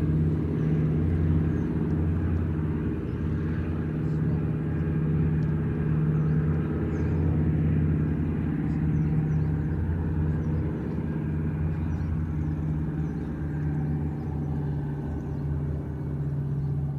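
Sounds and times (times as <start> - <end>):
propeller plane engines droning: 0.0 - 16.9.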